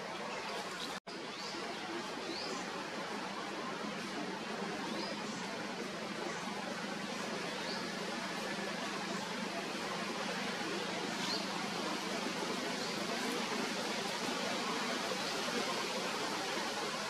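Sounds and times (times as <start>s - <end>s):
outdoor background hiss: 1.2s - 17.0s.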